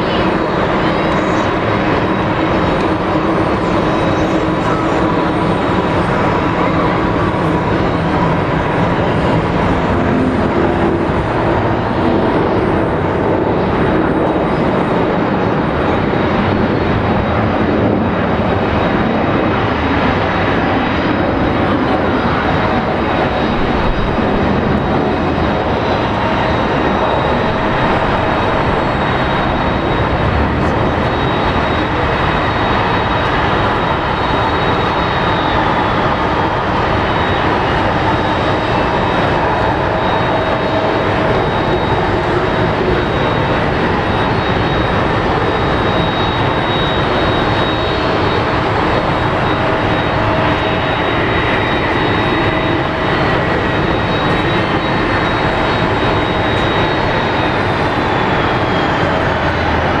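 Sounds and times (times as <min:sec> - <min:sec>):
high jet engine whine: 0:00.0 - 1:00.0
jet engines roaring: 0:00.0 - 1:00.0.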